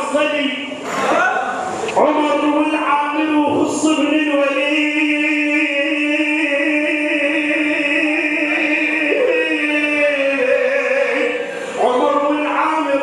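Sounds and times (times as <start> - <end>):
man singing a melismatic chant: 2.0 - 13.0.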